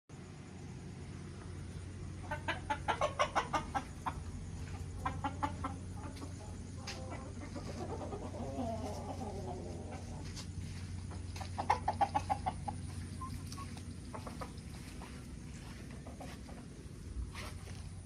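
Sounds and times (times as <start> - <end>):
steady low hum: 0.1 - 18.0
chickens clucking: 0.5 - 18.0.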